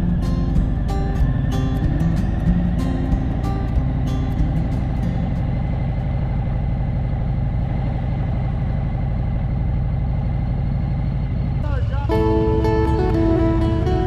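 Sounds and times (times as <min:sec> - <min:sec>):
motorcycle engine cruising: 0:00.0 - 0:14.0
road and wind noise: 0:00.0 - 0:14.0.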